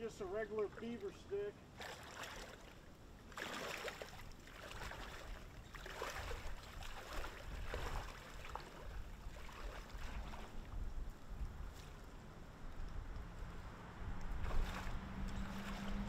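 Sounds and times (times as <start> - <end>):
wading through water: 0.0 - 16.0.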